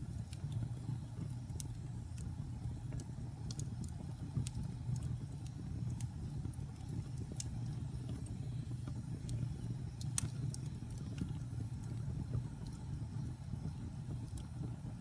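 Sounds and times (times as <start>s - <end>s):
fire crackles and pops: 0.0s - 15.0s
low rumble of fire: 0.0s - 15.0s.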